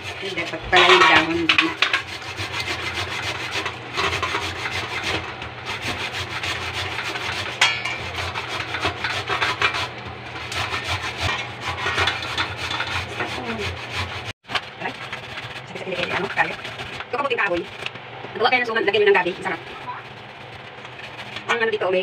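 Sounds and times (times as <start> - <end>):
root grated on metal grater: 0.0 - 22.0.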